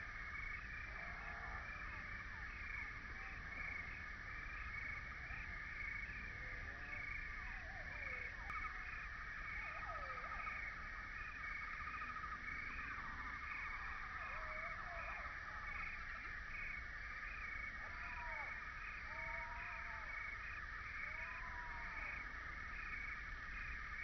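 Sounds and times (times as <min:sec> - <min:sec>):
pulsing insect chorus: 0:00.0 - 0:24.0.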